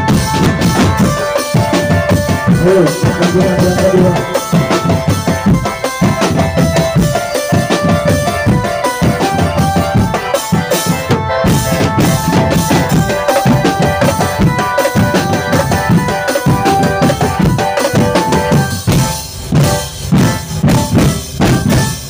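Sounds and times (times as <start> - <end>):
drum band music: 0.0 - 22.0
held melody line: 0.0 - 22.0
snare and bass drum beats: 0.0 - 22.0.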